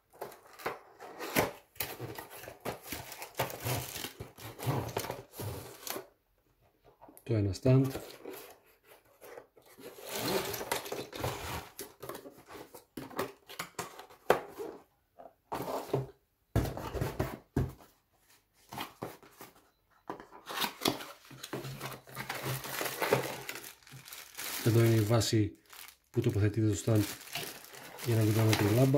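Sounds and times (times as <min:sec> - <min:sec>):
cardboard and wrapping rustling: 0:00.1 - 0:06.1, 0:07.7 - 0:14.9, 0:15.5 - 0:28.9.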